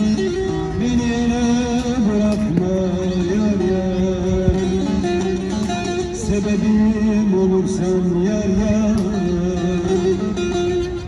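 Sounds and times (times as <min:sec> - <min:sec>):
plucked saz through speaker: 0:00.0 - 0:11.0.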